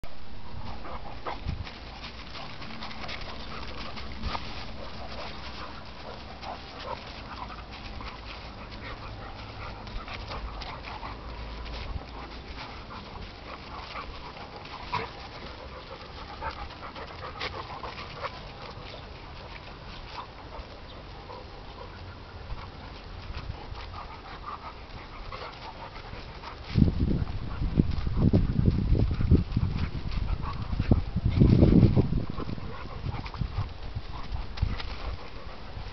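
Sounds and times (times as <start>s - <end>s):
dogs panting: 0.4s - 35.9s.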